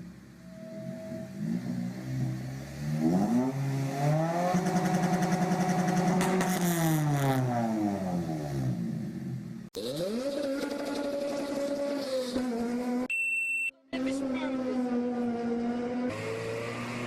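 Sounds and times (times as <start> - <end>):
car engine revving hard: 1.4 - 8.9, 9.8 - 13.1, 14.0 - 17.0.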